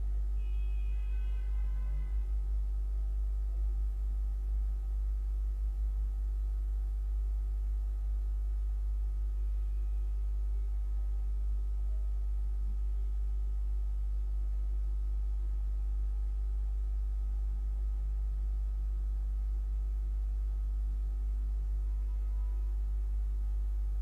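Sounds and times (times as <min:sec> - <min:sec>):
faint high whine: 0:00.0 - 0:24.0
low electrical hum: 0:00.0 - 0:24.0.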